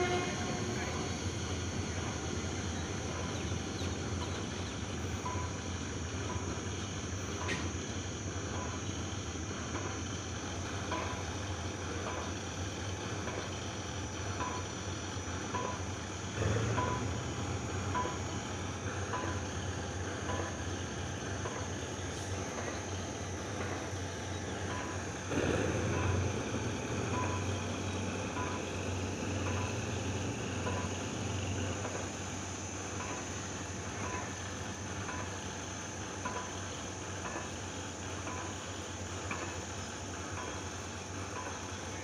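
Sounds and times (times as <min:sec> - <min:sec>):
low engine rumble: 0:00.0 - 0:07.4, 0:08.9 - 0:42.0
distant diesel locomotive hum: 0:00.0 - 0:42.0
outdoor noise: 0:00.0 - 0:42.0.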